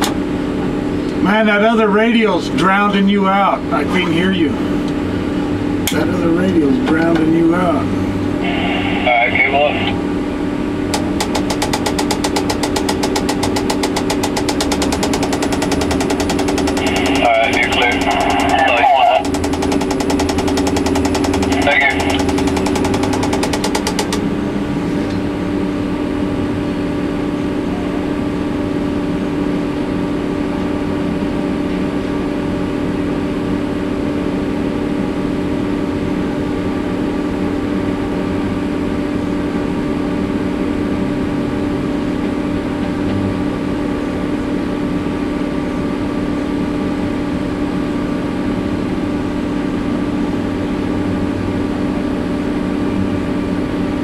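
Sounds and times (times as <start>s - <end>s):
crane engine drone: 0.0s - 54.0s.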